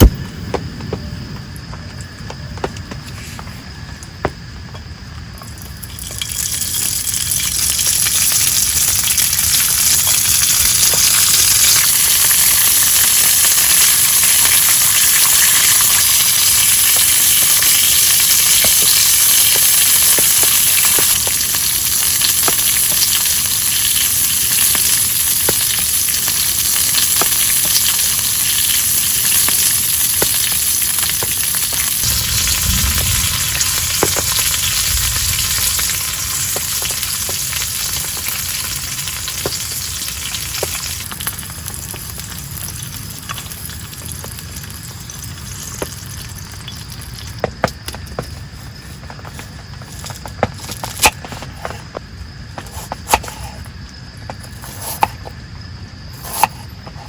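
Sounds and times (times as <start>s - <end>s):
food sizzling in hot oil: 5.3s - 51.2s
oil popping: 5.3s - 55.4s.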